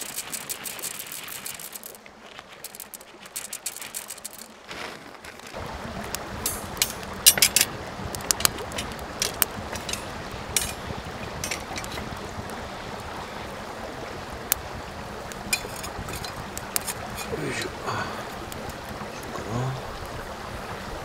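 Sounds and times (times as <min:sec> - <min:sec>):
campfire crackling and popping: 0:00.0 - 0:21.0
hiss of burning wood: 0:00.0 - 0:21.0.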